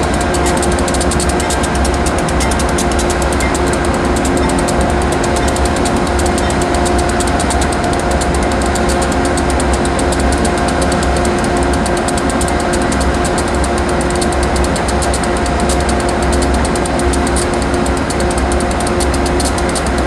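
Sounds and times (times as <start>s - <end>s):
diesel locomotive engine idling: 0.0s - 20.0s.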